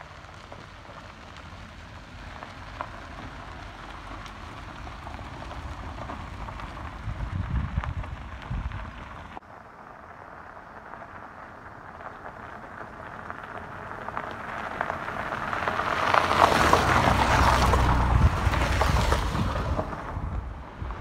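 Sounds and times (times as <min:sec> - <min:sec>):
tyres crunching on gravel: 0:00.0 - 0:21.0.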